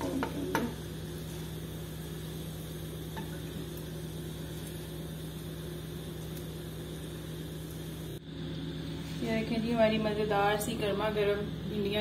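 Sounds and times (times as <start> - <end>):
kitchen hum with hiss: 0.0 - 12.0.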